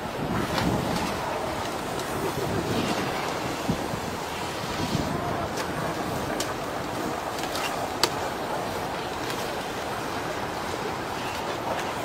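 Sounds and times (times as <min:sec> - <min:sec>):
floodwater rushing: 0:00.0 - 0:12.0
wind on microphone: 0:00.0 - 0:12.0.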